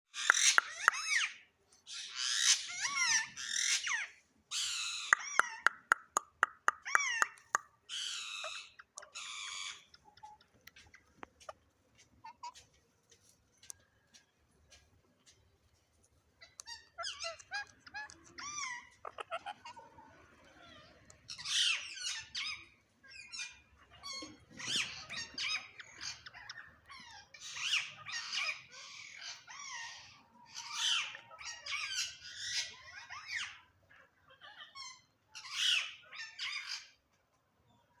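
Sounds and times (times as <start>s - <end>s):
parrot chirping and squawking: 0.1s - 12.8s, 16.4s - 37.1s.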